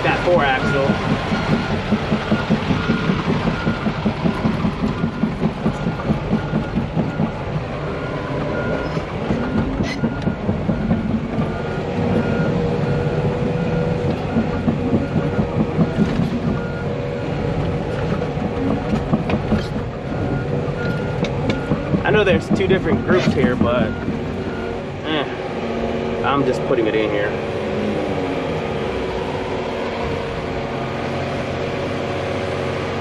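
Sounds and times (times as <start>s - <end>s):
excavator running: 0.0s - 33.0s
tracks clanking: 0.0s - 33.0s.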